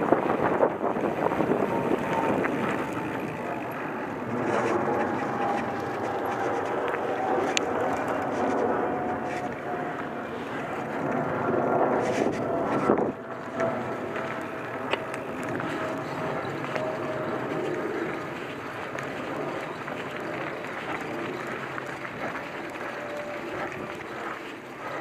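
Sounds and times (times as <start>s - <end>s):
wind rushing over microphone: 0.0s - 22.3s
bicycle tyres on dirt: 0.0s - 25.0s.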